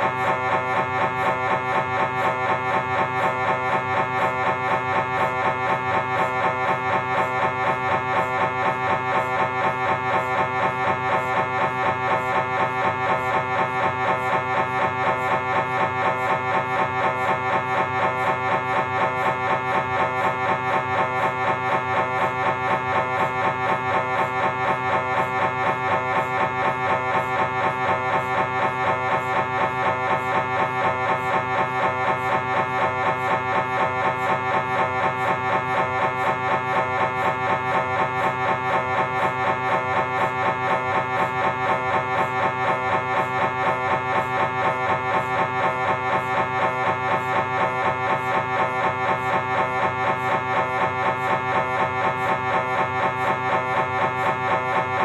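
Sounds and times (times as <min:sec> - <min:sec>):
mri scanner pulsing buzz: 0:00.0 - 0:55.0.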